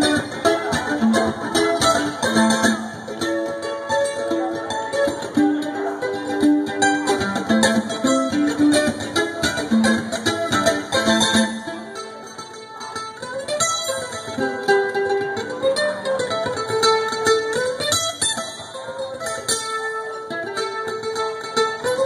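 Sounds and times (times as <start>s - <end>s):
mandolin picking a tune: 0.0s - 22.0s.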